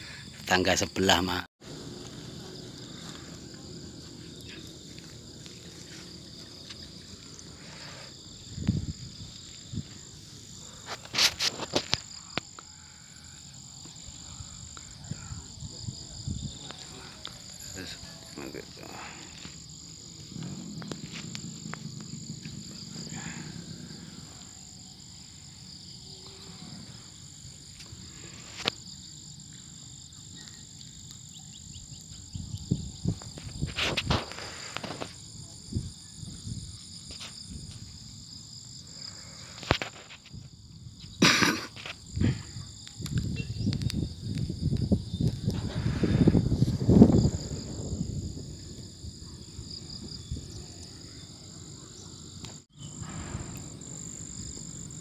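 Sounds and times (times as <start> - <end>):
insects droning trill: 0.0 - 55.0.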